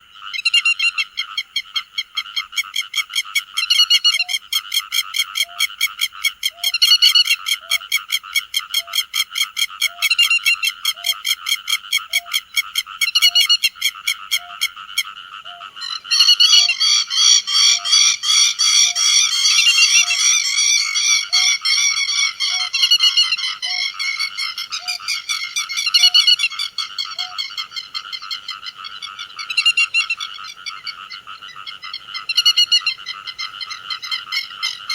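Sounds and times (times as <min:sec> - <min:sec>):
lapwing calls: 0:00.2 - 0:34.9.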